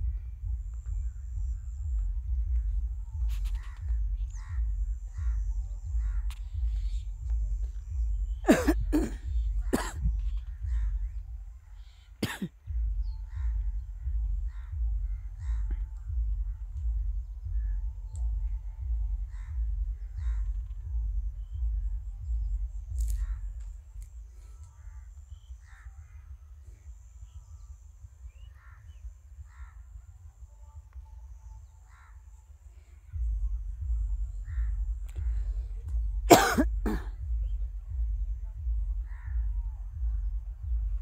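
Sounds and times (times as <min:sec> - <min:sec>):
low rumble: 0:00.0 - 0:25.8, 0:33.1 - 0:41.0
birds calling: 0:00.0 - 0:41.0.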